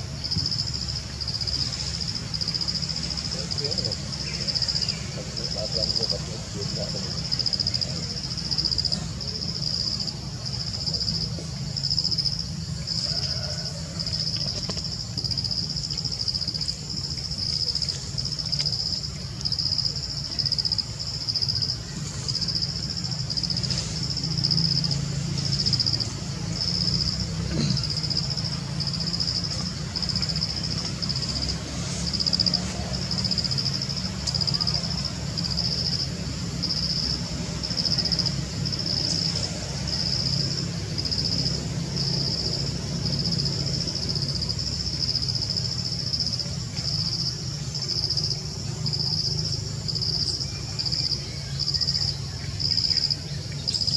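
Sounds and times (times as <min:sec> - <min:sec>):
insects chorus pulsing: 0:00.0 - 0:53.9.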